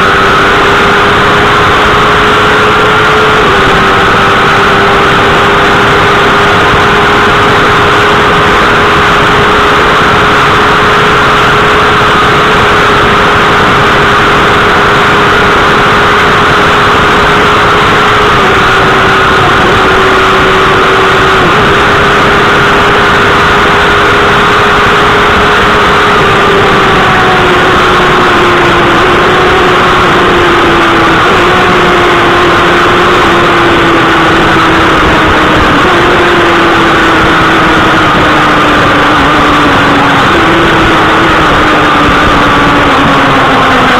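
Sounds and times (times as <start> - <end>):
loud wind rush: 0.0 - 43.9
motorcycle engine at high revs: 0.0 - 43.9.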